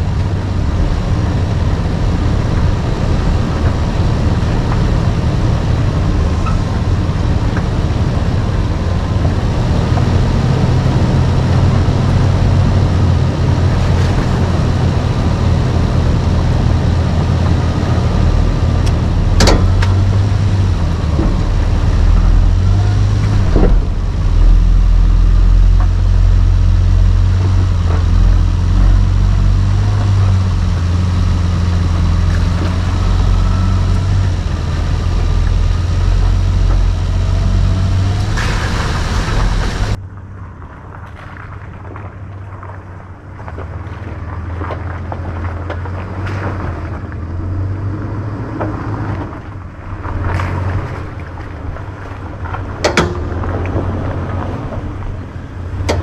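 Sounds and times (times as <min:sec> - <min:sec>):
car engine running at low speed: 0:00.0 - 0:56.0.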